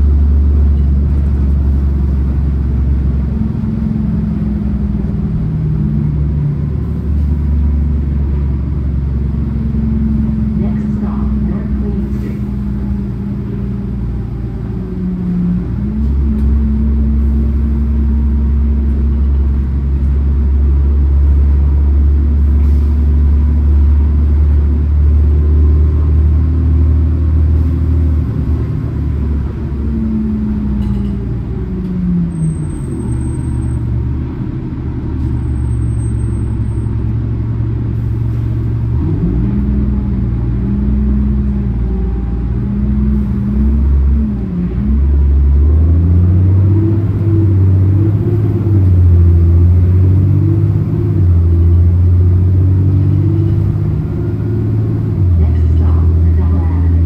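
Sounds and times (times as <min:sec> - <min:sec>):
bus drivetrain rumble: 0:00.0 - 0:57.0.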